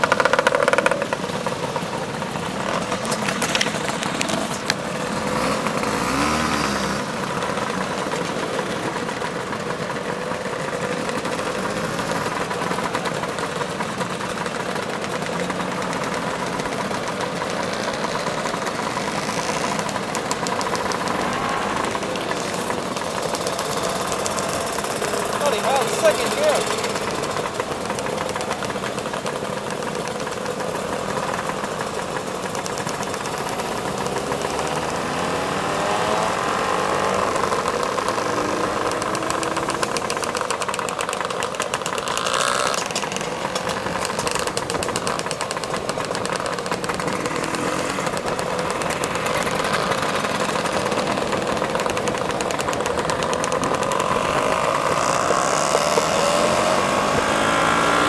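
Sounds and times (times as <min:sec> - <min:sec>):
passing scooter engines: 0:00.0 - 0:58.0
scooter engine humming: 0:00.0 - 0:58.0.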